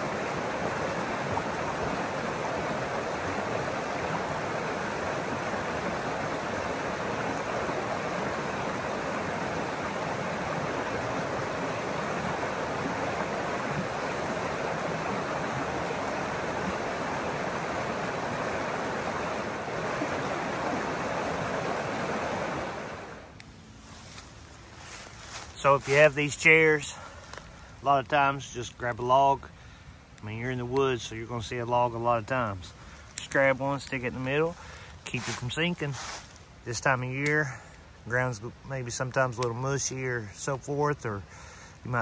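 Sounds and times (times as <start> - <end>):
creek water flowing over stones: 0.0 - 42.0.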